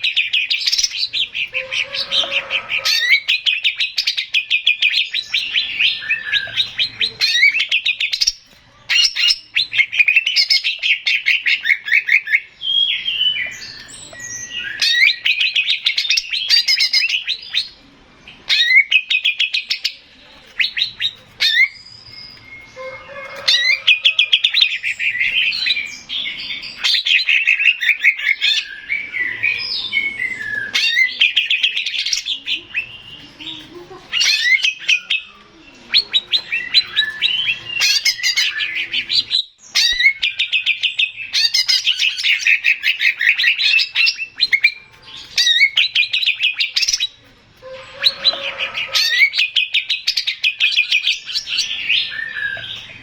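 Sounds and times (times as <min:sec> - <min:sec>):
bird singing chattering song: 0:00.0 - 0:53.0.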